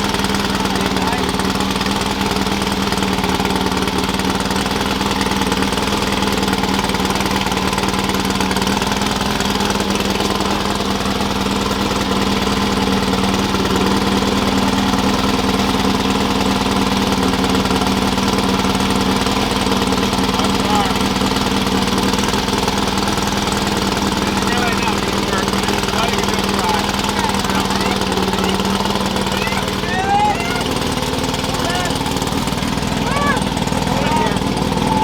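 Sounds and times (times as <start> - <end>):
engine droning steadily: 0.0 - 35.0.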